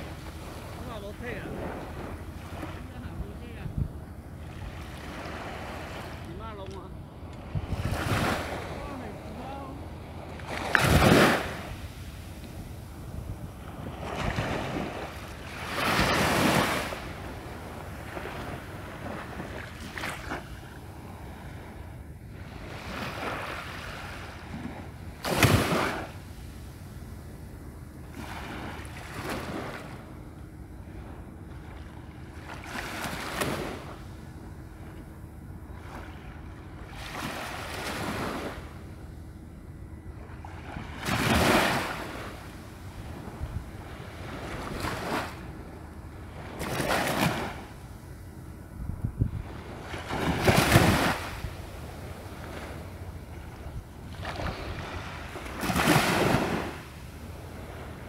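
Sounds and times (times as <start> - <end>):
small waves washing in: 0.0 - 39.2, 39.8 - 58.0.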